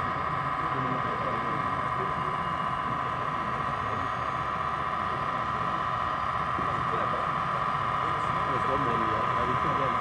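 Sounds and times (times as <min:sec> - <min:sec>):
diesel engine drone: 0:00.0 - 0:10.0
murmur of people talking: 0:00.0 - 0:10.0.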